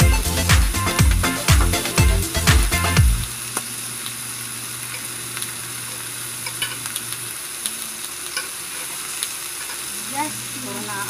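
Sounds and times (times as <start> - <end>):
meat sizzling on a grill pan: 0.0 - 11.0.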